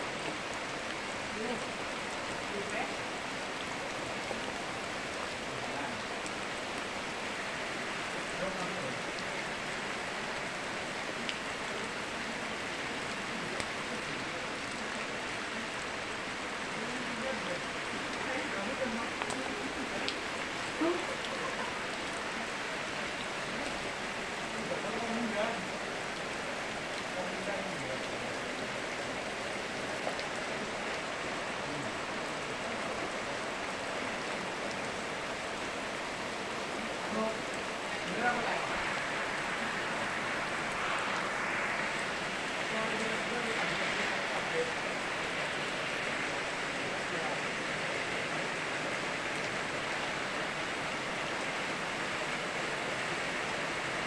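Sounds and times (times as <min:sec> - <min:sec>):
running river water: 0:00.0 - 0:54.0
steady rain falling: 0:00.0 - 0:54.0.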